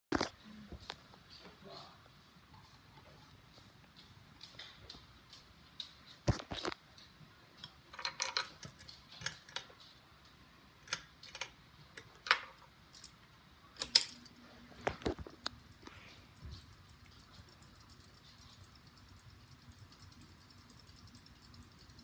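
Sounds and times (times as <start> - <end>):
ceiling fan motor hum: 0.4 - 22.0.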